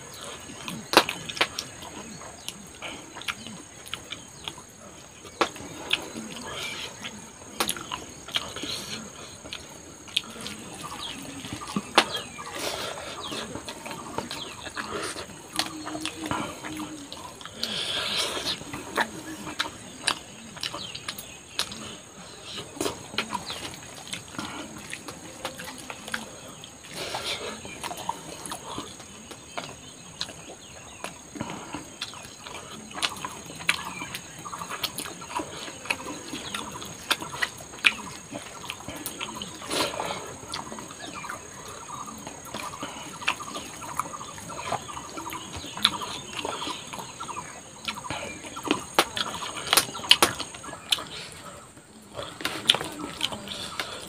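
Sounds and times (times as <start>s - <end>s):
lip smacks: 0.1s - 54.0s
person chewing food: 0.1s - 54.0s.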